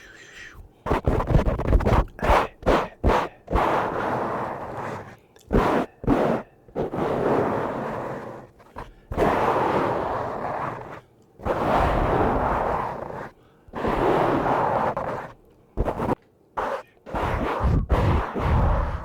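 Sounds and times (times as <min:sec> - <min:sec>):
brush swishing across microphone: 0:00.9 - 0:19.0.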